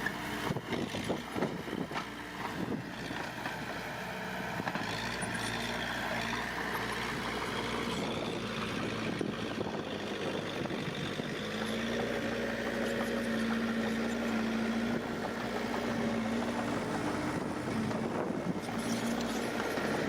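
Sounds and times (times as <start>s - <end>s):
heavy diesel engine humming: 0.0s - 20.0s.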